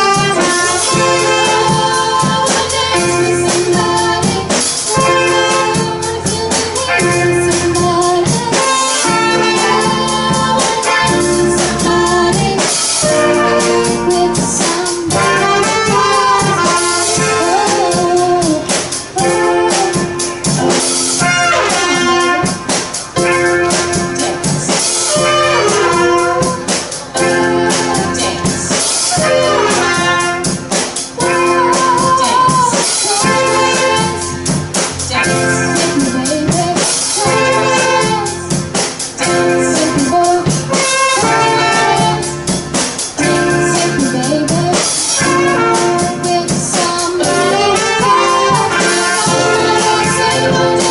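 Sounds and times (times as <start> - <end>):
bass and keys: 0.0 - 50.9
drum kit beat: 0.0 - 50.9
horn section playing melody: 0.0 - 50.9.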